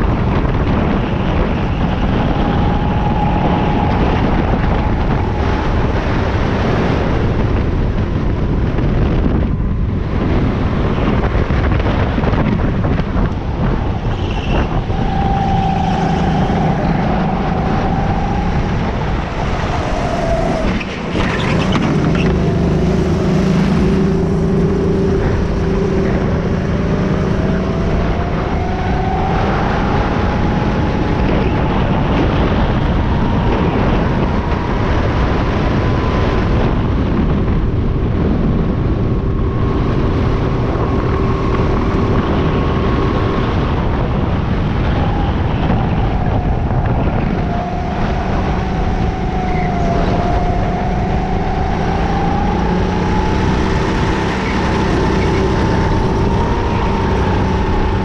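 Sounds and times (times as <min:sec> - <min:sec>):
go-kart motor whine: 0:00.0 - 0:58.0
rush of noise: 0:00.0 - 0:58.0.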